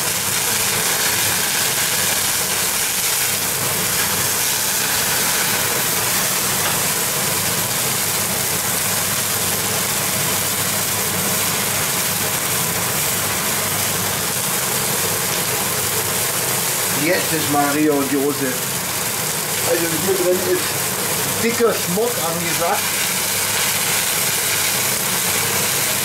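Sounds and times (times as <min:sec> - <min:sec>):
fan humming: 0:00.0 - 0:26.0
meat sizzling and spitting: 0:00.0 - 0:26.0.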